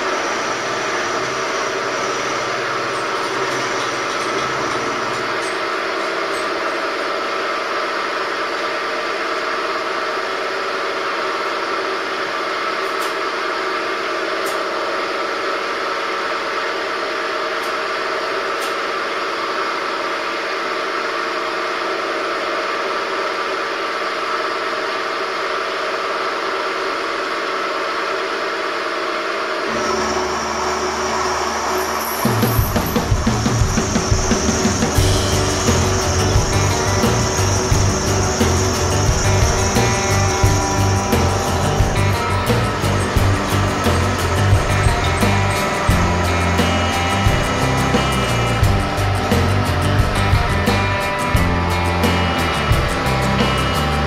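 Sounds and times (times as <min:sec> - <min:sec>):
end mill cutting metal: 0:00.0 - 0:54.0
motor and spindle whine: 0:00.0 - 0:54.0.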